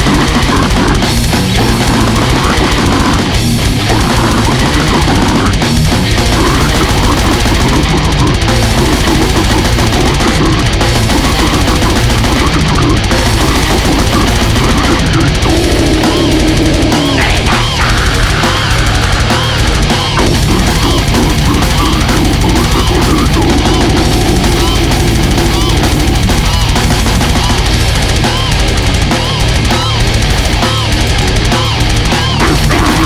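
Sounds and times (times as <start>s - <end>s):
distorted electric guitars: 0.0s - 33.0s
fast drumming: 0.0s - 33.0s
squealing guitar pitch sweeps: 0.0s - 33.0s.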